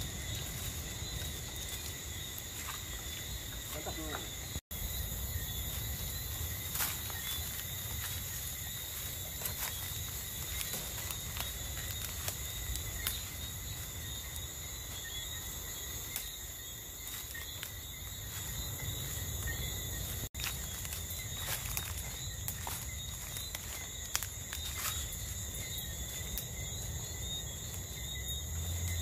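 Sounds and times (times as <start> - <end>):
crickets and insects trilling: 0.0 - 29.0.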